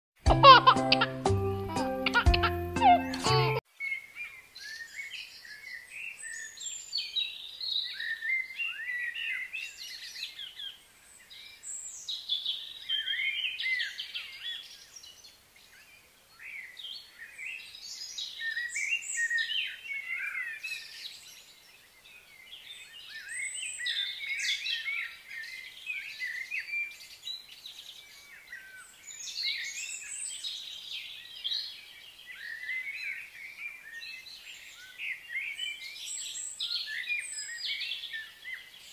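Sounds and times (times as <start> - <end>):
songbirds chirping and trilling: 0.4 - 38.9.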